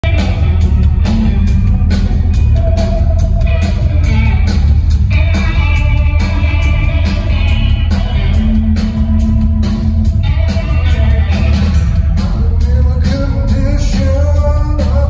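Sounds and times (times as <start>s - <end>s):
bass guitar: 0.0s - 15.0s
drum beat: 0.0s - 15.0s
electric guitar: 0.0s - 15.0s.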